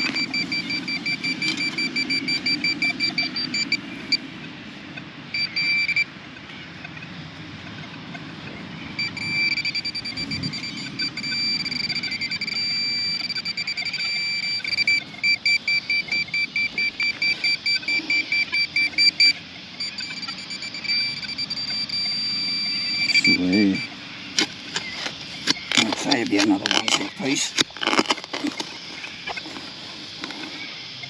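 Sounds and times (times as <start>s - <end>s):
metal detector beeping: 0.0s - 4.2s, 5.3s - 6.1s, 8.9s - 30.7s.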